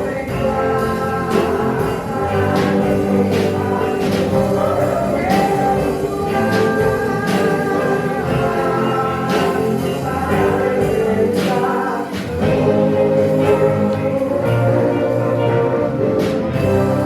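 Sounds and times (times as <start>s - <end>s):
choir singing over a beat: 0.0s - 17.0s.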